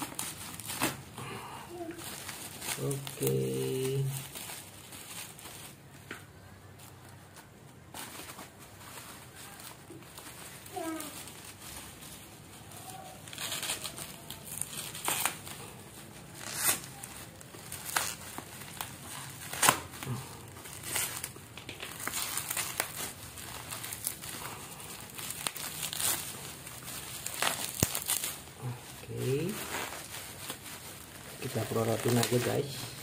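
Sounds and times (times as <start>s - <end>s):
bubble wrap crinkling: 0.0s - 33.0s.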